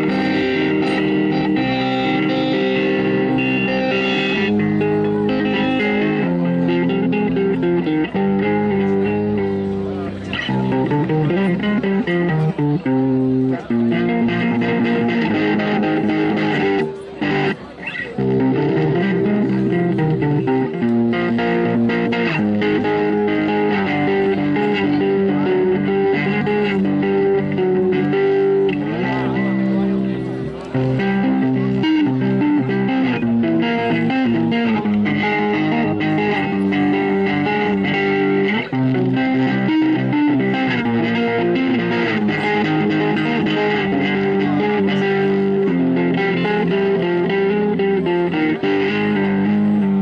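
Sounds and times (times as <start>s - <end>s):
electric guitar blues melody: 0.0s - 50.0s.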